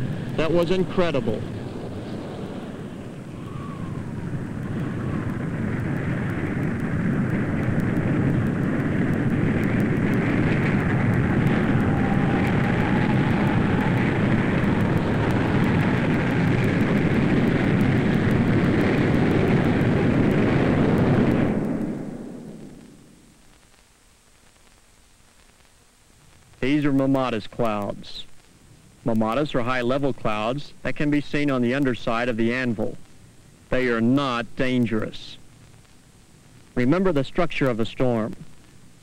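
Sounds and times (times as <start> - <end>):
tornado winds roaring: 0.0 - 23.6, 26.3 - 39.0.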